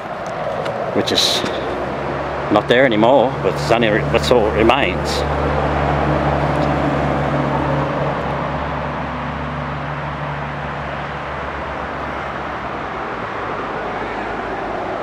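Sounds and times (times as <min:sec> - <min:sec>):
road traffic noise: 0:00.0 - 0:15.0
vehicle engine hum: 0:00.0 - 0:15.0.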